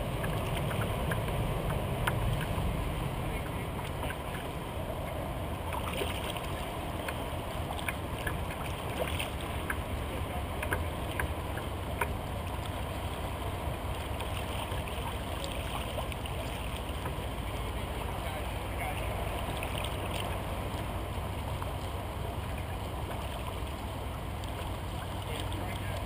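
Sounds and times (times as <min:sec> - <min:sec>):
low steady rumble: 0:00.0 - 0:26.0
small sharp splashes and drips: 0:00.0 - 0:26.0
water lapping against kayak hull: 0:00.0 - 0:26.0.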